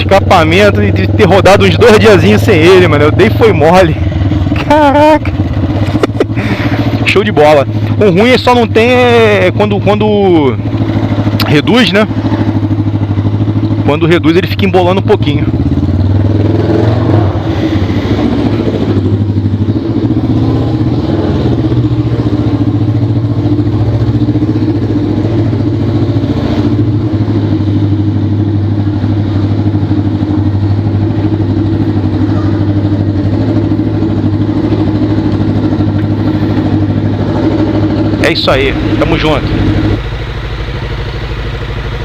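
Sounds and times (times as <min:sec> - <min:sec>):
motorcycle engine running loud: 0:00.0 - 0:42.0.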